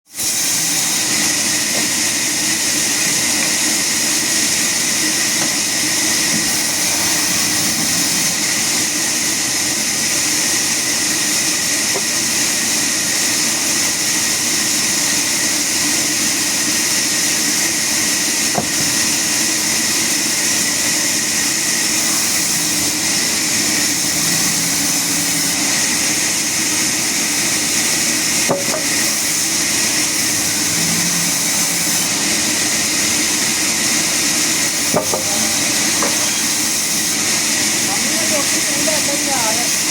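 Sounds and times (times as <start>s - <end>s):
sawmill saw running: 0.1s - 39.9s.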